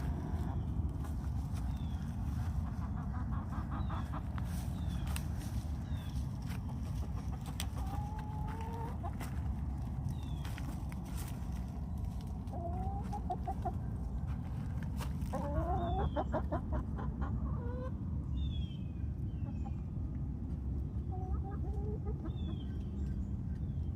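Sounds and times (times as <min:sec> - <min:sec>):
hens clucking: 0:00.0 - 0:18.2, 0:19.4 - 0:23.9
low background rumble: 0:00.0 - 0:23.9.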